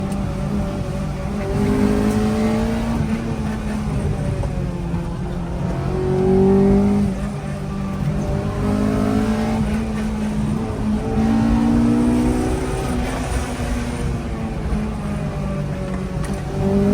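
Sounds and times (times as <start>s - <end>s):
car engine accelerating: 0.0s - 16.9s.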